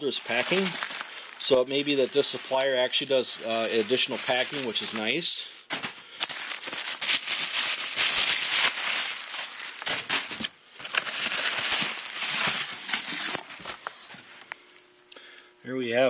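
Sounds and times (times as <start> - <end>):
plastic packing crinkling and rustling: 0.0 - 14.6.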